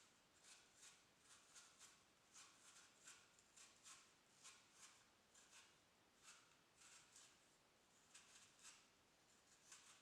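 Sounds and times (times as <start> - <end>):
soft scratching strokes: 0.0 - 10.0.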